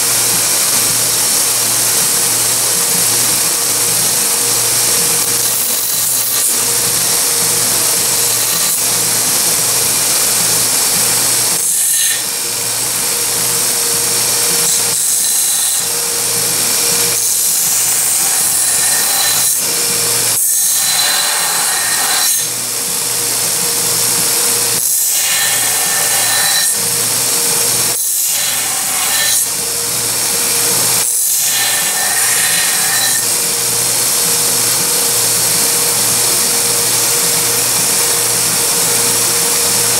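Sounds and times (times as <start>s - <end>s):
belt sander grinding hiss: 0.0s - 39.9s.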